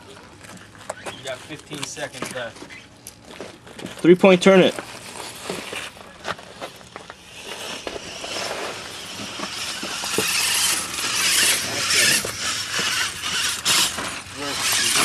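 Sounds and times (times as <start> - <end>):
tires scraping on rock and dirt: 0.0 - 15.0.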